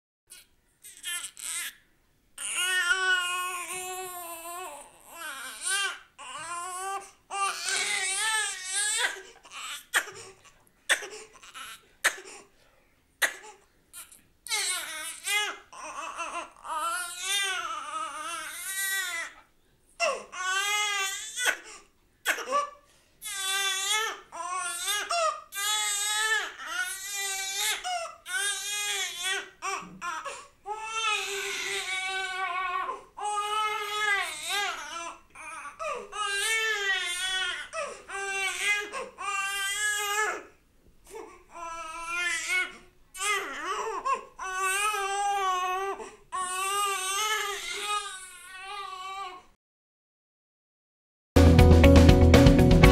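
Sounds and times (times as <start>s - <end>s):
baby crying: 0.3s - 1.8s, 2.4s - 12.4s, 13.3s - 40.5s, 41.1s - 49.5s.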